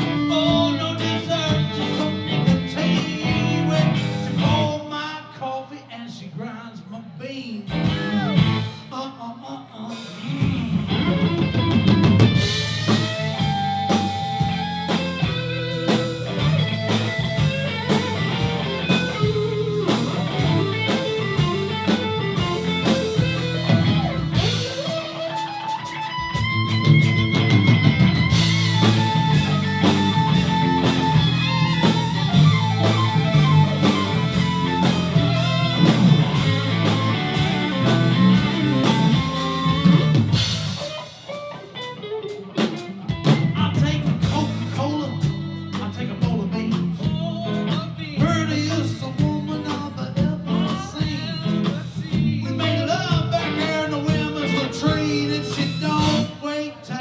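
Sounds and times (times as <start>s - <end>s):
drum kit: 0.0s - 4.8s, 7.7s - 8.9s, 9.9s - 56.4s
electric guitar lead: 0.0s - 4.8s, 7.7s - 8.9s, 10.2s - 56.8s
bass guitar: 0.0s - 4.9s, 7.7s - 8.9s, 10.2s - 56.5s.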